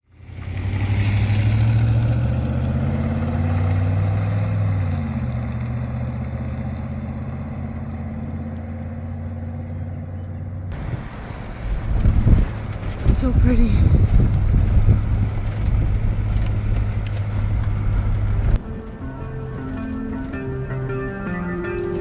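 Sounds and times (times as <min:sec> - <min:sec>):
pickup truck engine running: 0:00.0 - 0:18.6.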